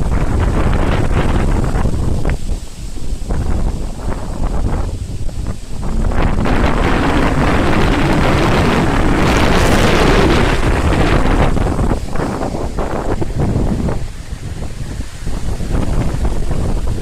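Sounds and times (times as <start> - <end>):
wind gusting through trees: 0.0 - 17.0
wind rumbling on microphone: 0.0 - 17.0.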